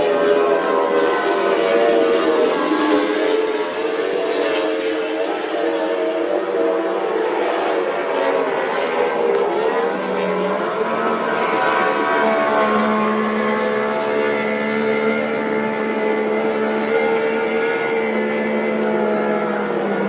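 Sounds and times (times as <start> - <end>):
powerboat engine droning: 0.0 - 20.0.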